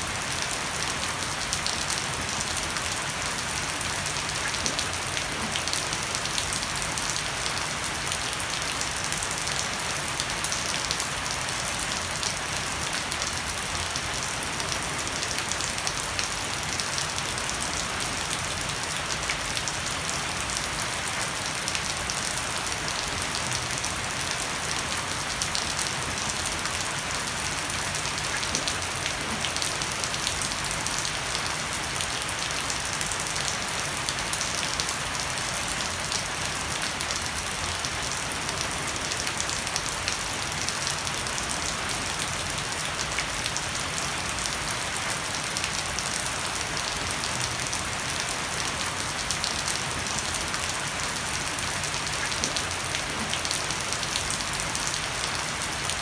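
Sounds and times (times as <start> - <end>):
heavy rain on wood and leaves: 0.0 - 56.0.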